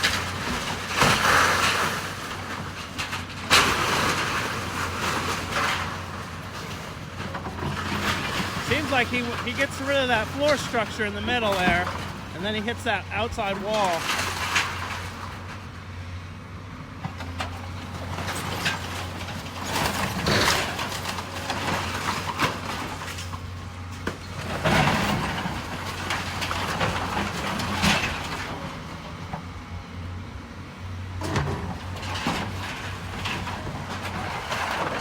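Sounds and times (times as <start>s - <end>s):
debris crashing and scraping: 0.0s - 15.9s, 17.0s - 29.4s, 31.2s - 35.0s
diesel engine running: 1.7s - 35.0s.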